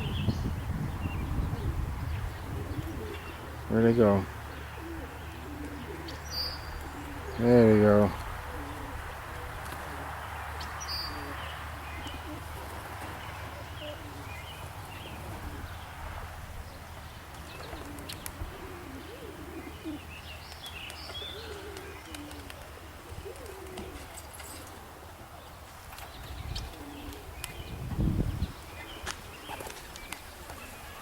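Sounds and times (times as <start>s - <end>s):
pigeons cooing: 0.0s - 31.0s
small birds chirping: 0.0s - 31.0s.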